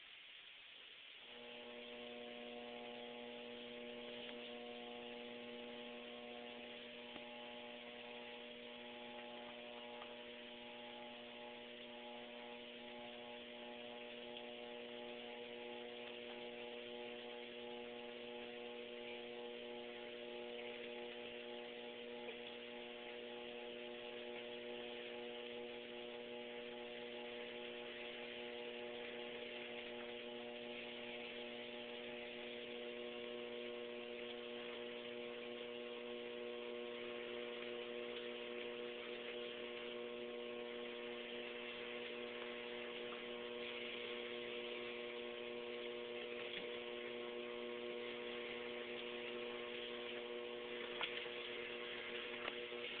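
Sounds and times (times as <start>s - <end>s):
treadmill belt hiss: 0.0s - 53.0s
treadmill motor hum: 1.2s - 53.0s.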